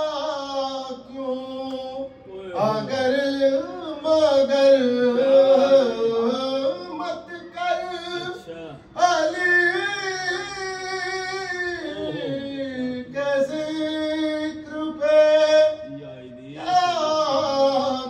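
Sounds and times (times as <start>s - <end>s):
man singing devotional verses: 0.0s - 18.0s.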